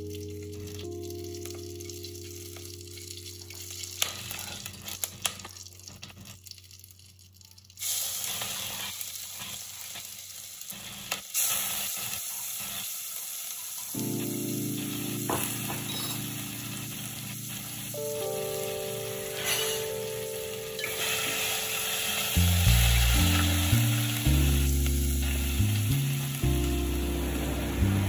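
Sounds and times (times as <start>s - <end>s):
spices sizzling in hot oil: 0.0s - 28.0s.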